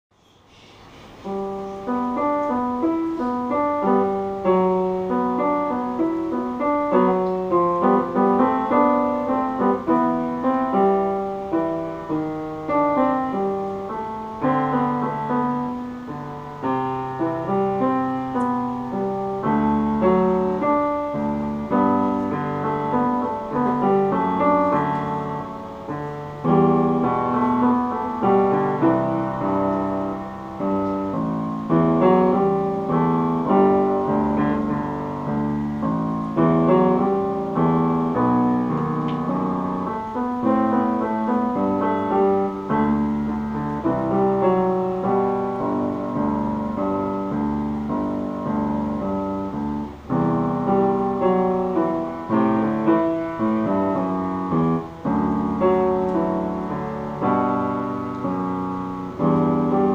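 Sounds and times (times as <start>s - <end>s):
solo piano melody: 0.1s - 59.9s.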